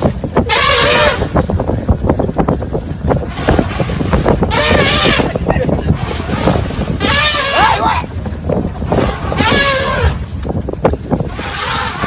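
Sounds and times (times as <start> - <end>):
vehicle engine rumbling: 0.0 - 12.0
wind on microphone: 0.0 - 12.0.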